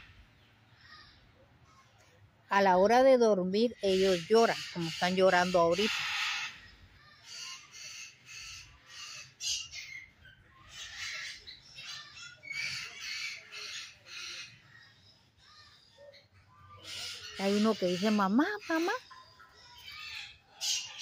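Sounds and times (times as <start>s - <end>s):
parrots squawking: 3.8s - 21.0s.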